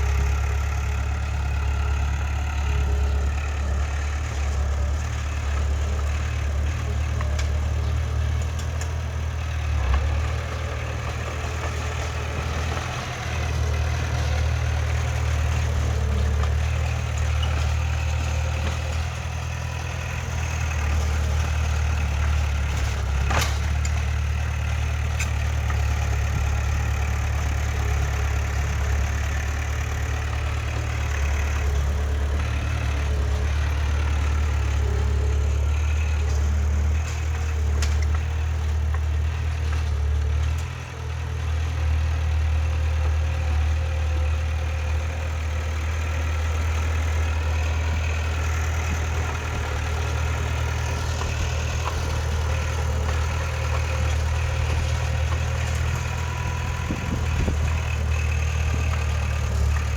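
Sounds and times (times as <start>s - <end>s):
diesel machine engine rumbling: 0.0s - 59.9s.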